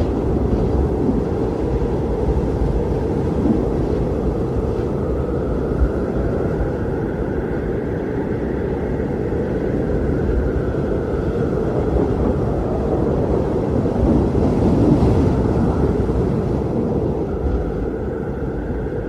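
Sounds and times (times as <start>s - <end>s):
strong wind blowing: 0.0s - 19.0s.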